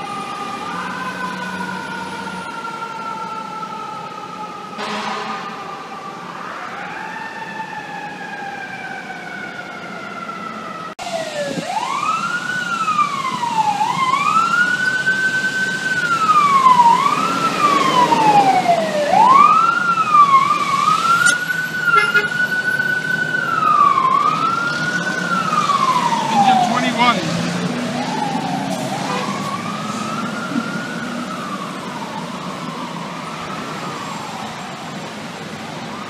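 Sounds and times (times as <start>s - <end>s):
distant siren sliding downward: 0.0s - 36.0s
fire engine siren wailing: 0.0s - 36.0s.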